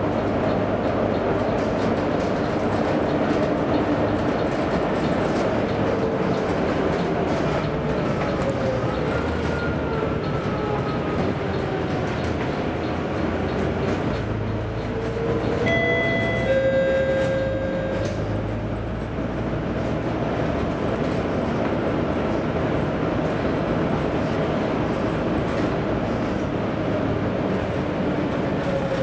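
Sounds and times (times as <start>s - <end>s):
bus diesel engine: 0.0s - 29.0s.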